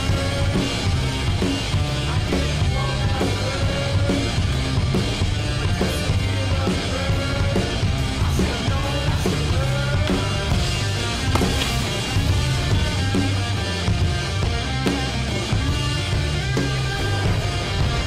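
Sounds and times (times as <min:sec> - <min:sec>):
heavy bass: 0:00.0 - 0:18.0
rock music: 0:00.0 - 0:18.0
steady drum beat: 0:00.0 - 0:18.0.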